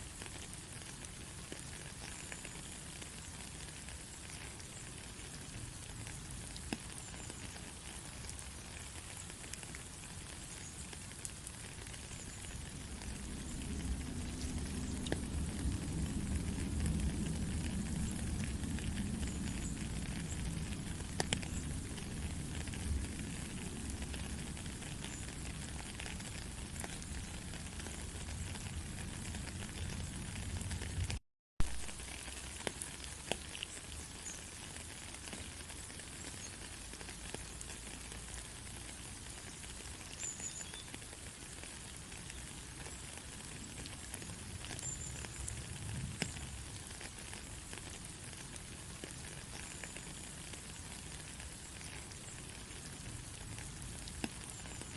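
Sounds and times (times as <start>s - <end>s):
rain hiss: 0.0s - 54.9s
raindrop ticks: 0.0s - 54.9s.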